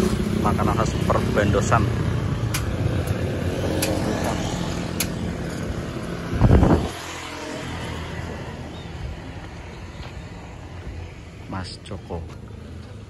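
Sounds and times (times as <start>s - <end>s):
motorbike engines passing: 0.0s - 13.0s.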